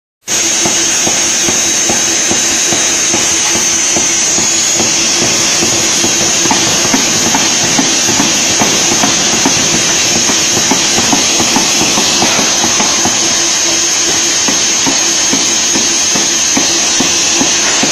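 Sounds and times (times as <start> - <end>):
machine hiss and hum: 0.2 - 17.9
power hammer striking steel: 0.3 - 17.9.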